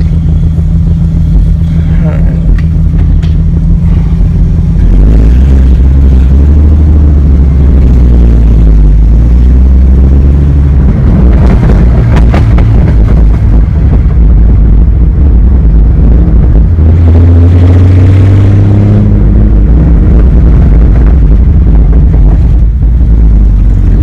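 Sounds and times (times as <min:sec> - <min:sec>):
car engine droning: 0:00.0 - 0:24.0
exhaust crackling and popping: 0:00.0 - 0:24.0.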